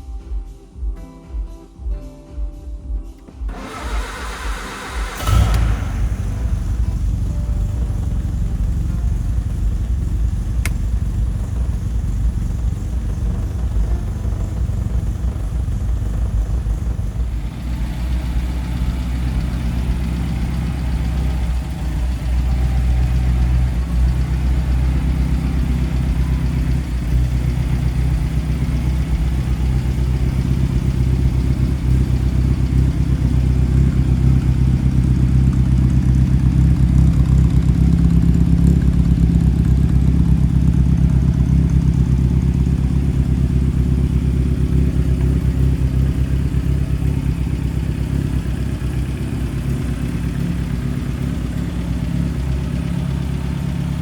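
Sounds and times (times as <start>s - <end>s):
car engine idling: 3.5s - 54.0s.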